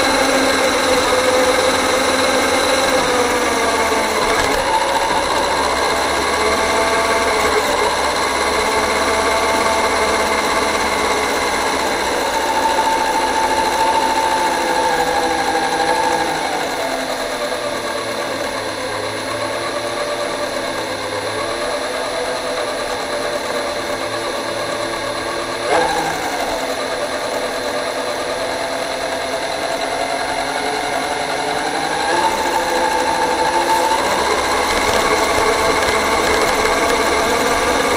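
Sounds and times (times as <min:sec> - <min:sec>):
electric motor whining: 0:00.0 - 0:37.9.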